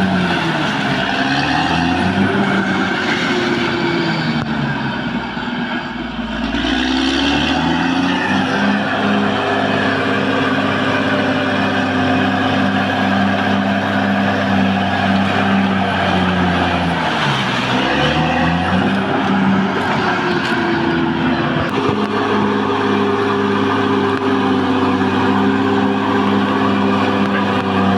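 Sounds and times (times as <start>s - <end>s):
bulldozer diesel engine running hard: 0.0s - 27.9s.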